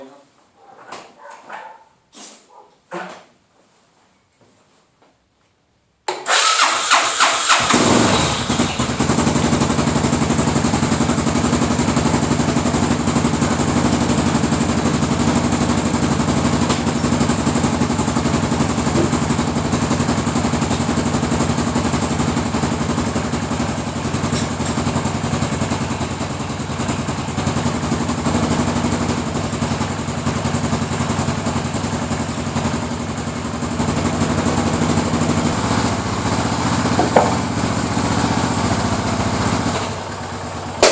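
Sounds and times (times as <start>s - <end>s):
motorcycle engine starting and idling: 6.1s - 40.9s.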